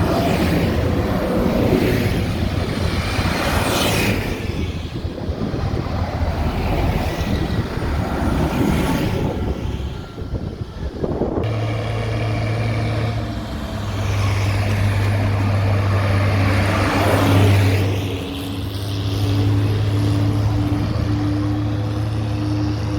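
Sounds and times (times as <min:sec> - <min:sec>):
engine low even hum: 0:00.0 - 0:22.9
tractor engines running: 0:00.0 - 0:22.9.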